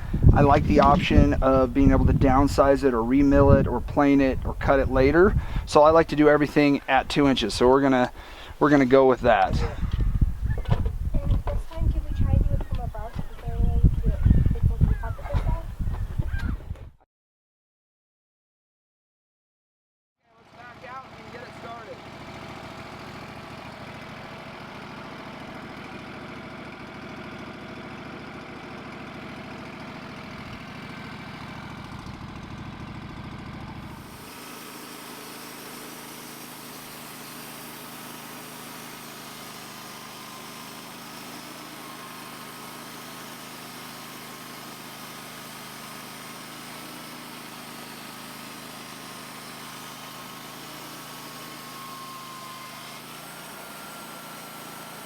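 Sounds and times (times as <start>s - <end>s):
sawmill engine rumbling: 0.0s - 14.9s, 20.4s - 55.0s.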